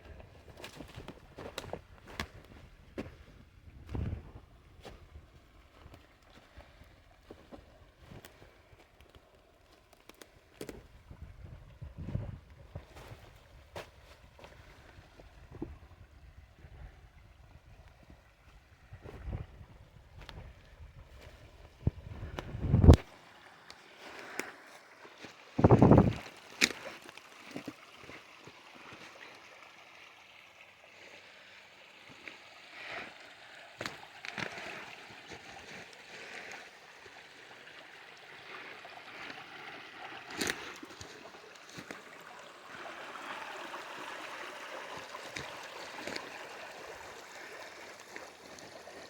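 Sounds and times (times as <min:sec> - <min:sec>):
shallow water trickling: 0:00.0 - 0:49.0.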